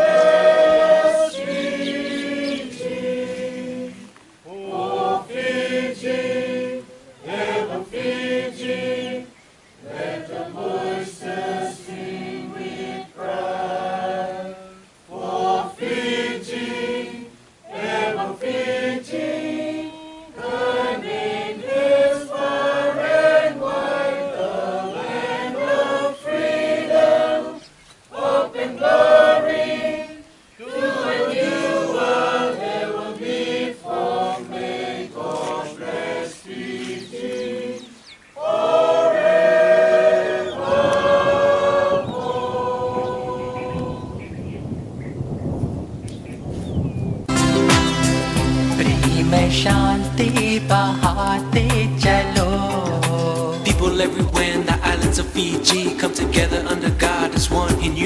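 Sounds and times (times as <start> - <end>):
group of people singing: 0.0 - 44.3, 48.7 - 58.0.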